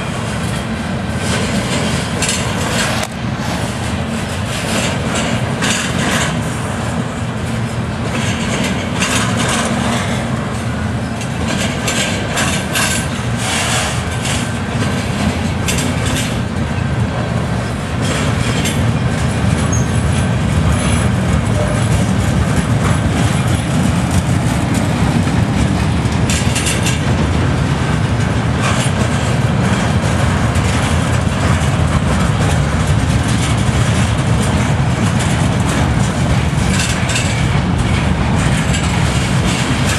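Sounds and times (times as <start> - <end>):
clacks and metallic knocks: 0.0 - 3.2, 3.8 - 6.5, 8.0 - 16.9, 18.0 - 39.9
steel wheels rumbling on rails: 0.0 - 39.9.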